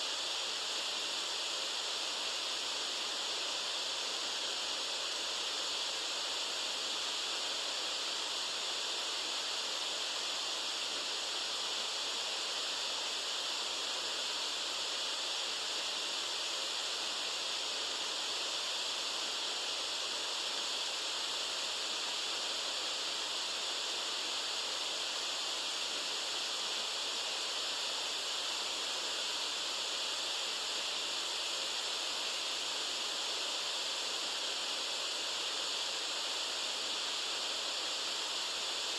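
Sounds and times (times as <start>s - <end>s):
steady white noise: 0.0s - 38.9s.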